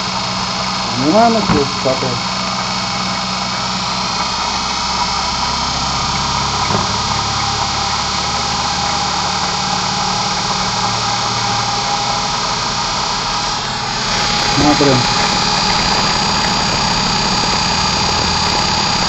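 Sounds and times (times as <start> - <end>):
electric motor hum and whine: 0.0 - 19.0.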